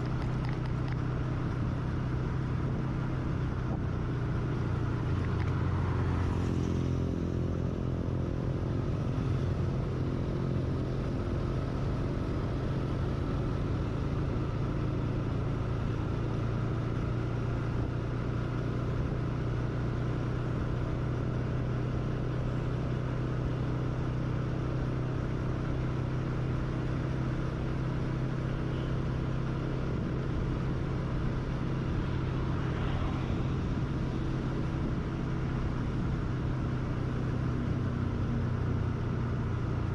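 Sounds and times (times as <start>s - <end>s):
motorcycle engine cruising: 0.0s - 39.9s
road noise: 0.0s - 39.9s.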